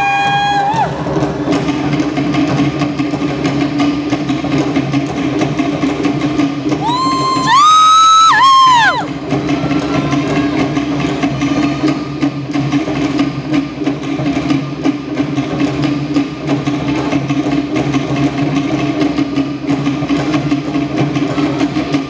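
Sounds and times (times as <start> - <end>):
deeper drums: 0.0 - 22.0
slit drums clattering: 0.9 - 22.0.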